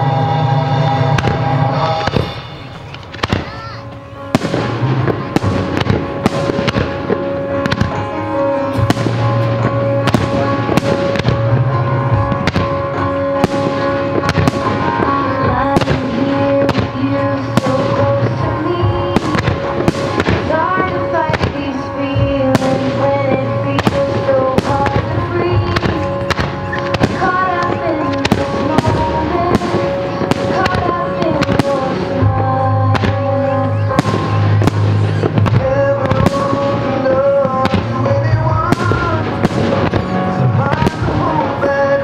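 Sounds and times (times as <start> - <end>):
music with bass line: 4.2 - 42.0.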